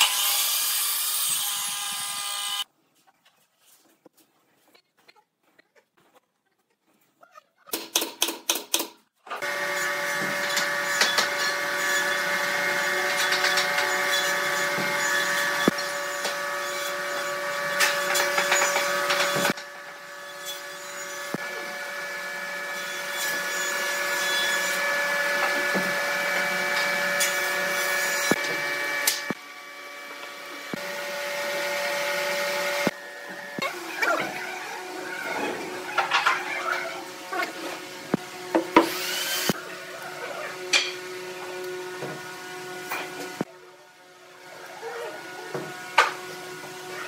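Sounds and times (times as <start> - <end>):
power tool sawing: 0.0 - 2.7, 9.4 - 47.0.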